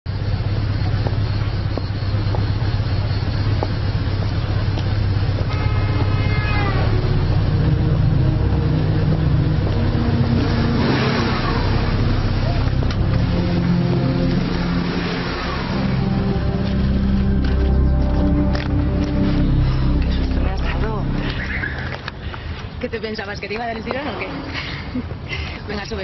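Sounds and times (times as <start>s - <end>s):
motorcycle engine: 0.1s - 22.3s.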